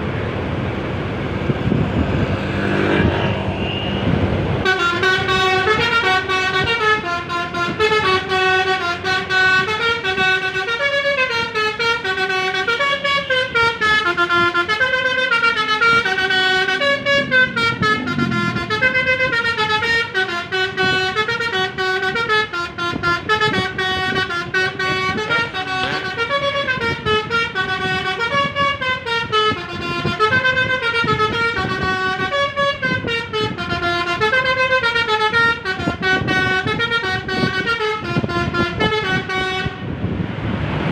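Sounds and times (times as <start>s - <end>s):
musical bus horn playing a tune: 2.4s - 40.0s.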